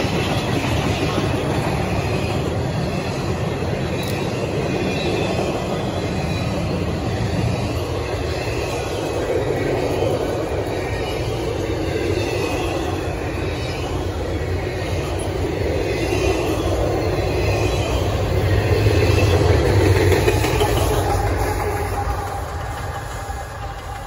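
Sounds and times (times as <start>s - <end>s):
diesel locomotive passing: 0.0s - 24.0s
train wheels rumbling on rails: 0.0s - 24.0s.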